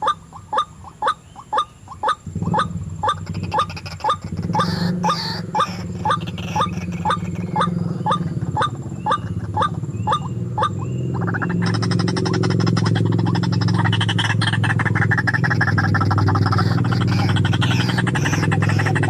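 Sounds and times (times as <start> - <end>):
bird calls rising note: 0.0 - 19.0
steady low hum: 0.0 - 19.0.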